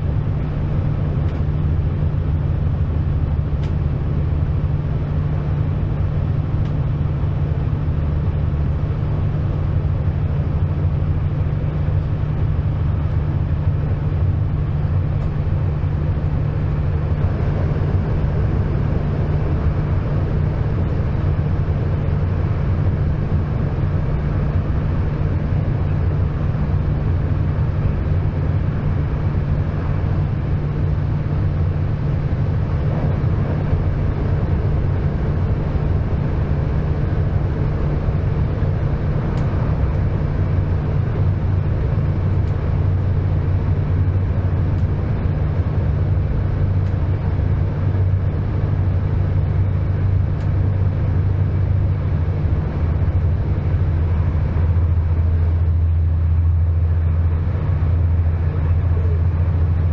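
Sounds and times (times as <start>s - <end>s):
train rumbling along track: 0.0s - 59.9s.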